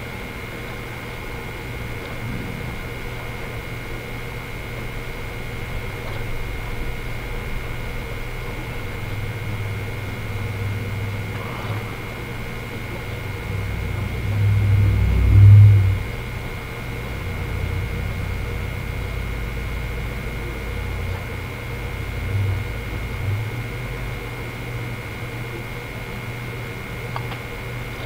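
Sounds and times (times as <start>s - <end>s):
electrical hum with tones: 0.0s - 28.0s
low rumble: 1.7s - 24.4s.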